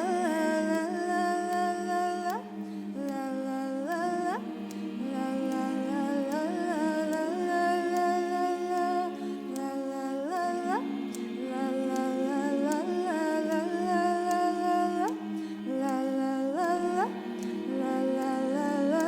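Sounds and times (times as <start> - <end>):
vocal group humming chords: 0.0 - 19.0.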